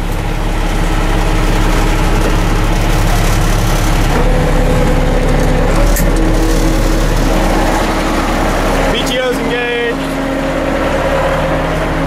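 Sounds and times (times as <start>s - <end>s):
diesel truck engine idling: 0.0s - 12.0s
steady high whine: 0.0s - 12.0s.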